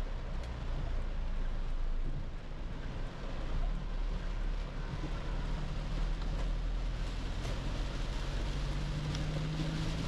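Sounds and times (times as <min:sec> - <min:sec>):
car engine hum: 0:00.0 - 0:10.0
rain on car body: 0:00.0 - 0:10.0
tyre noise on wet road: 0:00.0 - 0:10.0.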